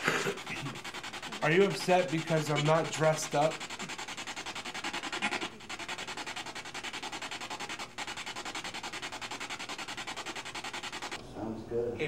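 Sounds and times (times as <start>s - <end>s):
rapid chopping radio static: 0.0s - 11.2s.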